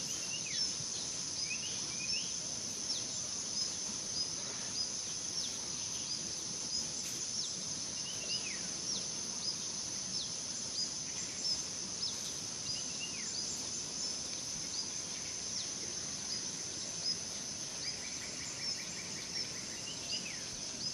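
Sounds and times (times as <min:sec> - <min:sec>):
high insect buzz: 0:00.0 - 0:20.9.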